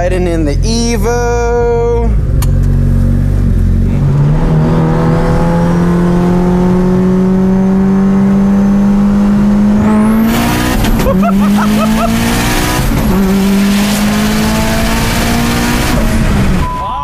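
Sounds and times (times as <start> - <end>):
car engine accelerating: 0.0 - 16.8.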